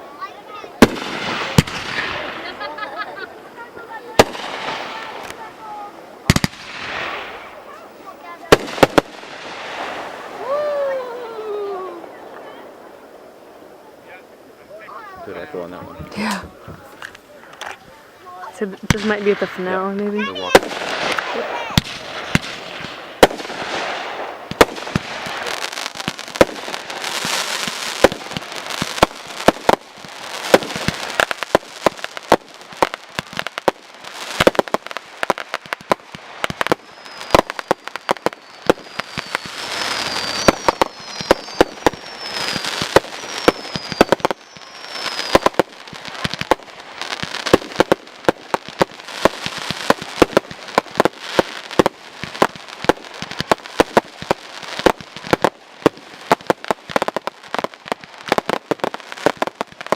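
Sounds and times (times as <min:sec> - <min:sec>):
fireworks bangs and crackle: 0:00.0 - 0:59.9
falling firework whistles: 0:00.1 - 0:18.3, 0:18.9 - 0:59.9.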